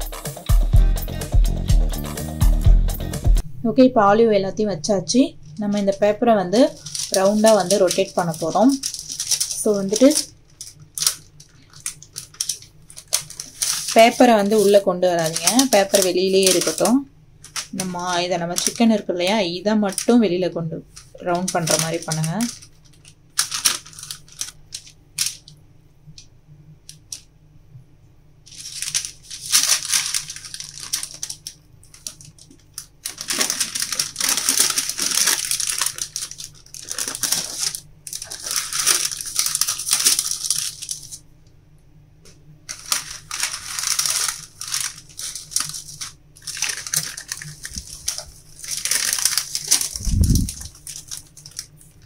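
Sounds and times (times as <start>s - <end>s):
baking paper crinkling: 5.4s - 25.6s, 28.5s - 41.2s, 42.7s - 52.0s.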